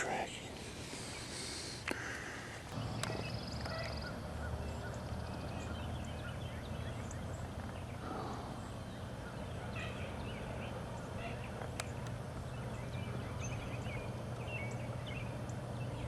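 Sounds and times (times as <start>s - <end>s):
steady low rumble: 2.6s - 16.0s
bird chirps: 2.8s - 16.0s.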